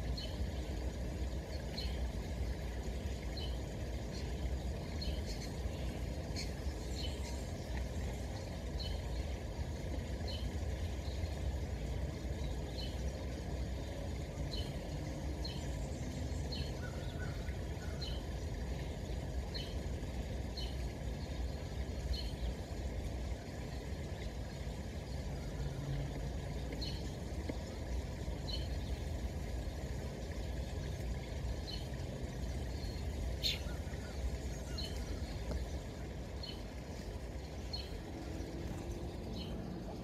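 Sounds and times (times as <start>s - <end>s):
low steady rumble: 0.0s - 40.0s.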